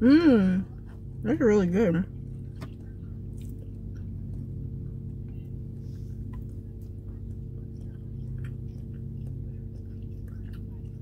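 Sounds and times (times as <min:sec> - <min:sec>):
low hum in car cabin: 0:00.0 - 0:11.0
person chewing food: 0:02.2 - 0:11.0.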